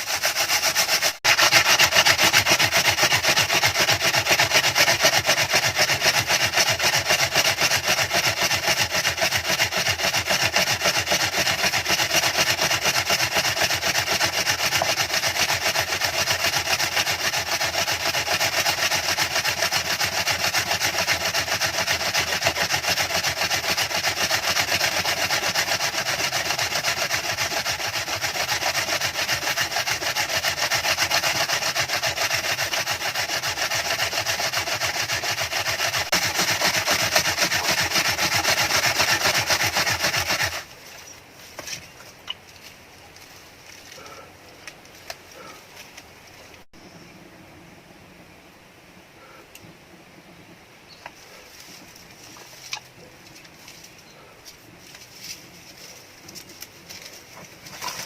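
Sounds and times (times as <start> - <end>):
rasping scrape: 0.0 - 46.7, 51.1 - 58.0.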